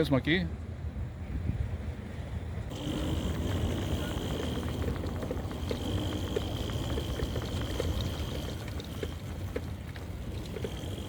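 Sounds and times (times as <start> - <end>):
wind rumbling on microphone: 0.6 - 11.0.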